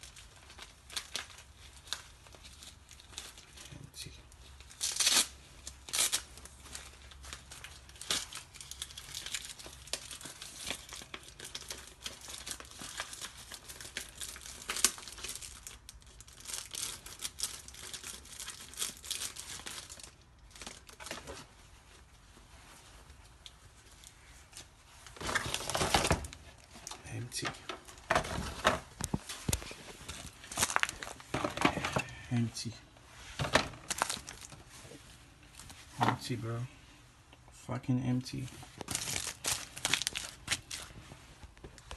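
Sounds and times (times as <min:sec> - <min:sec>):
plastic and paper crinkling: 0:00.0 - 0:36.6, 0:38.3 - 0:41.9.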